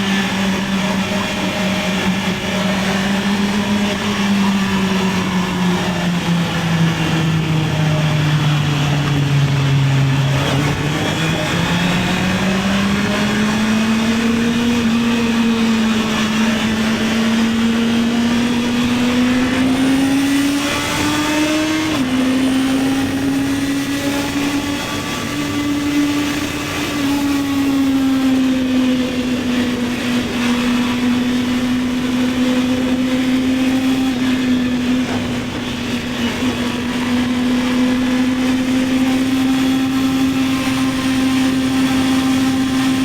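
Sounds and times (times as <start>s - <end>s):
motorcycle engine accelerating: 0.0s - 43.0s
wind and road noise: 0.0s - 43.0s.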